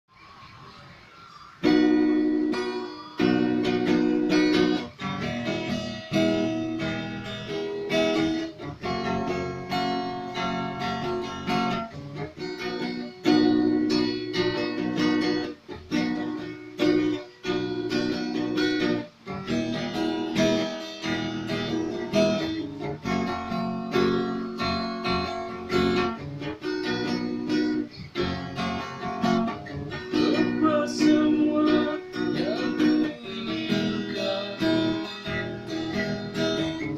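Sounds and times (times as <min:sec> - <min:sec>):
acoustic guitar strumming: 0:01.5 - 0:36.9.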